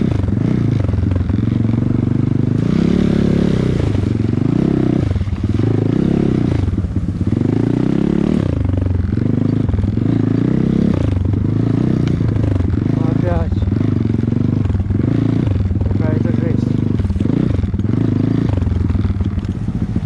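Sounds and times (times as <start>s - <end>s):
clatter over rough ground: 0.0s - 20.0s
motorbike engine revving: 0.0s - 20.0s.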